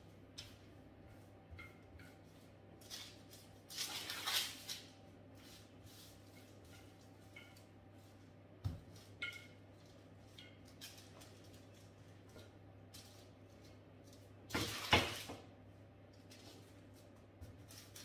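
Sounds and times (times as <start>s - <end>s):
parchment paper rustling: 0.1s - 15.4s.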